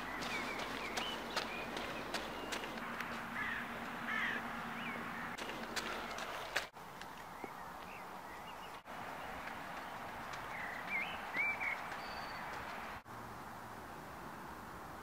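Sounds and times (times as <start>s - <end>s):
songbird chirps: 0.0s - 13.0s.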